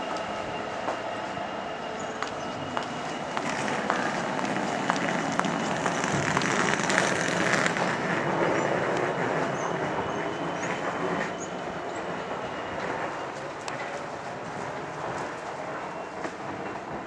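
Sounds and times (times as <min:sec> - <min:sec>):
diesel locomotive passing slowly: 0:00.0 - 0:17.0.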